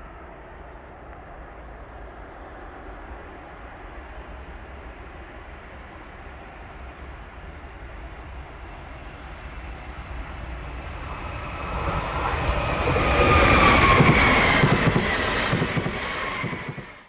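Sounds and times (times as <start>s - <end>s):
train passing at speed: 0.0s - 17.0s
wheels rumbling on rails: 0.0s - 17.0s.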